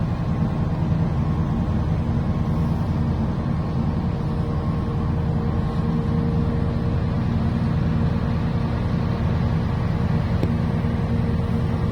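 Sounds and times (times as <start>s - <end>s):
engine humming steadily: 0.0s - 11.9s.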